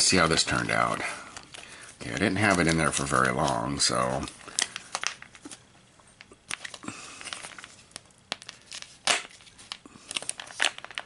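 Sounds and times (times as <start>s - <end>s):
plastic packaging crinkling: 0.4s - 5.6s, 6.2s - 11.0s.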